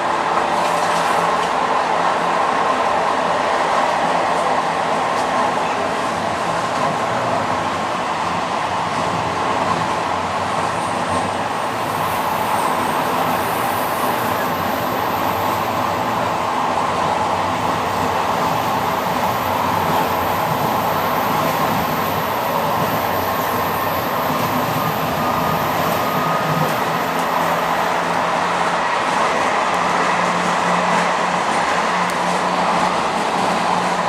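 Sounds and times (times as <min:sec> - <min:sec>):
train rushing rail noise: 0:00.0 - 0:34.0.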